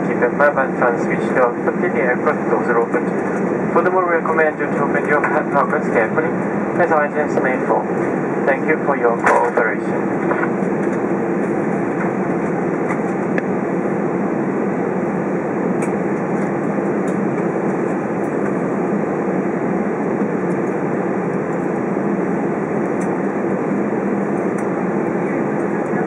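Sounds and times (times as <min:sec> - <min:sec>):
aircraft cabin noise: 0:00.0 - 0:26.0.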